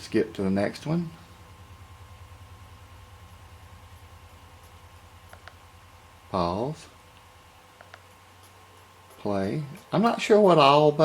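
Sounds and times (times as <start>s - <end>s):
faint steady whine: 0.0s - 11.0s
low throbbing machine hum: 0.0s - 11.0s.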